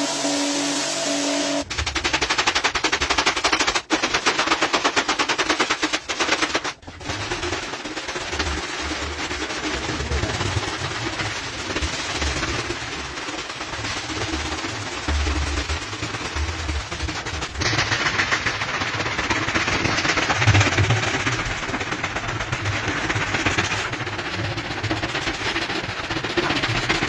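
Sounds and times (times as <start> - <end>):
brush scrubbing a rug: 0.0 - 27.0.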